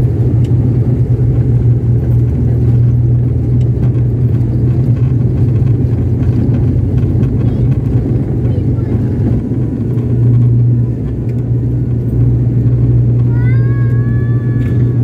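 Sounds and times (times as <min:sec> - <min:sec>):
propeller engine droning: 0:00.0 - 0:15.0.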